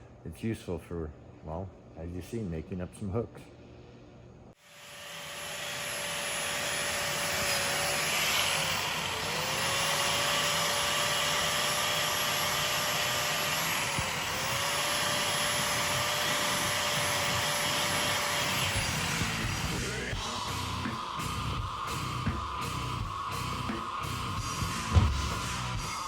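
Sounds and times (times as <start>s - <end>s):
angle grinder grinding metal: 4.6s - 26.0s.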